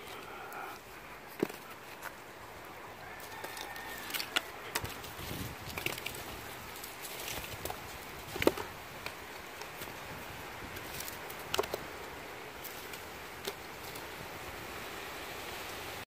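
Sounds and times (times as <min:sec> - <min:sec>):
dry wood cracking: 0:00.0 - 0:14.4
steady hiss: 0:00.0 - 0:16.0.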